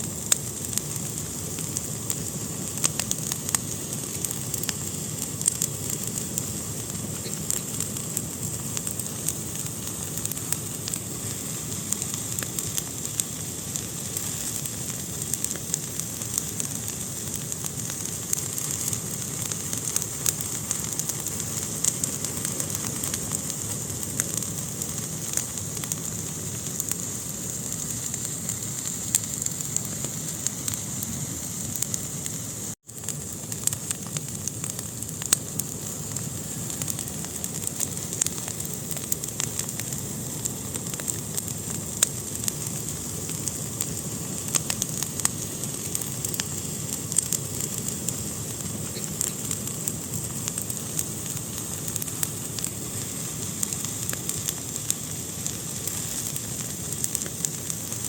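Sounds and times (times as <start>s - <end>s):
fire crackling and popping: 0.0s - 58.0s
fire hissing and rumbling: 0.0s - 58.0s.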